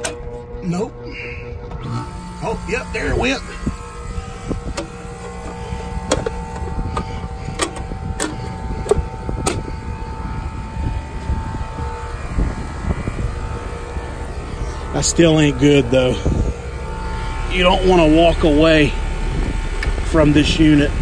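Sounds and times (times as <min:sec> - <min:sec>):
condensing unit humming: 0:00.0 - 0:21.0
steady tones: 0:00.0 - 0:21.0.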